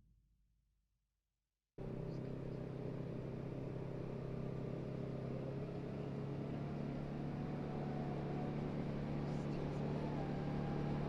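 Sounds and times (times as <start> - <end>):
vehicle engine humming: 1.8 - 11.0.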